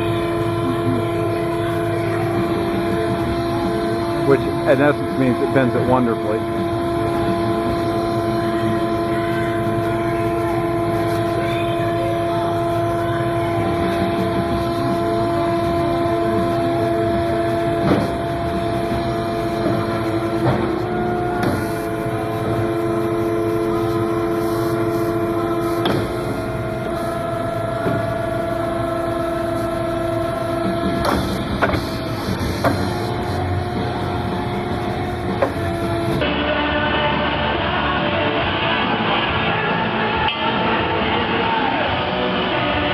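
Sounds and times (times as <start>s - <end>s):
hydraulic power unit whining: 0.0s - 42.9s.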